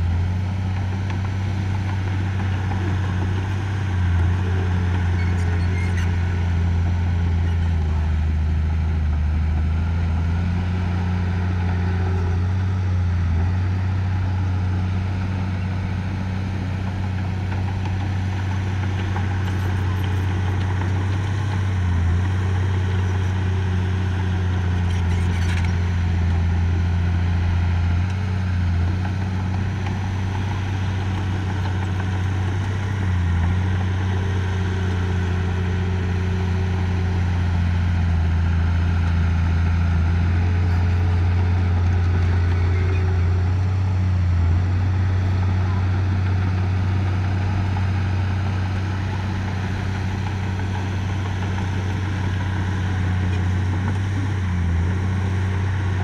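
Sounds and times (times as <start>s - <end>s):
heavy machinery diesel engine droning: 0.0s - 56.0s.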